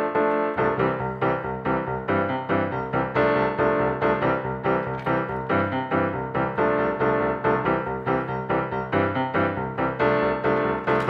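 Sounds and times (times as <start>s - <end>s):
keyboard tune: 0.0s - 11.0s.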